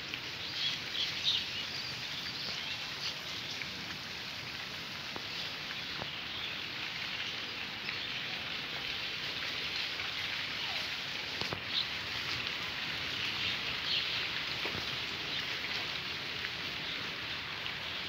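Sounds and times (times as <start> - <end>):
light rain hiss: 0.0 - 18.0.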